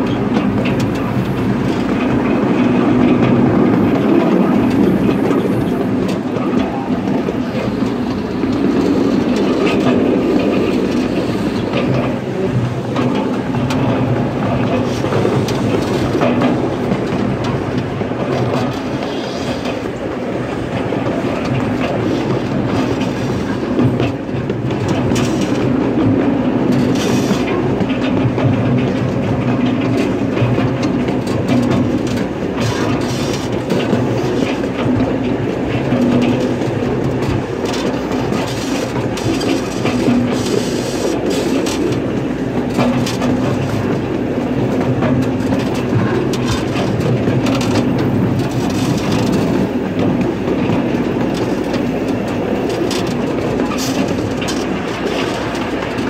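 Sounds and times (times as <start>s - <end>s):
miniature train engine drone: 0.0s - 56.0s
wheels clicking over rail joints: 0.0s - 56.0s.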